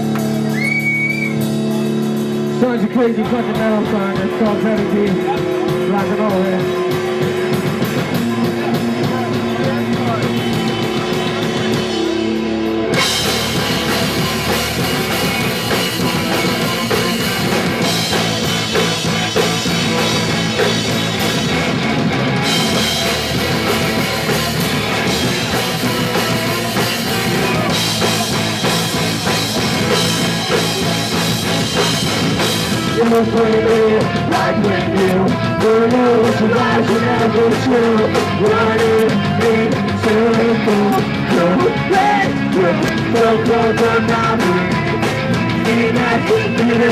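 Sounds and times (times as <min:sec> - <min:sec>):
rock band playing: 0:00.0 - 0:46.9
sustained guitar notes: 0:00.0 - 0:46.9.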